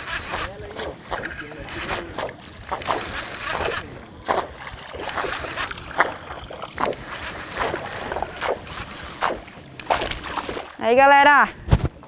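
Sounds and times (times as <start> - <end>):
water splashes and slaps: 0.0 - 12.0.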